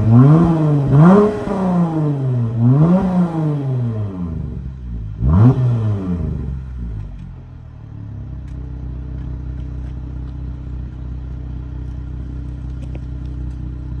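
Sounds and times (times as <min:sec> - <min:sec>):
car exhaust idling deep: 0:00.0 - 0:14.0.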